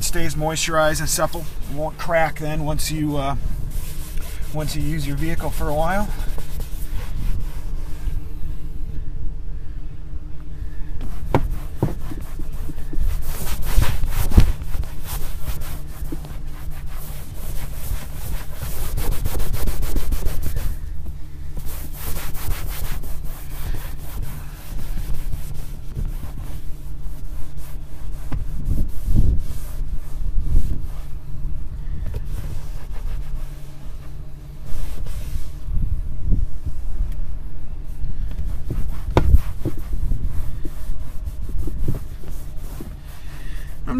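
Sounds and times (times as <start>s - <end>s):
cloth rubbing leather seat: 0.0s - 8.9s, 10.8s - 43.9s.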